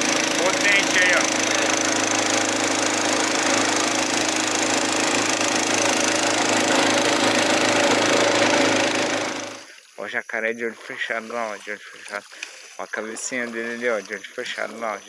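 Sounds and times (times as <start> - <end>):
boat engine running steadily: 0.0 - 9.9, 10.8 - 15.0.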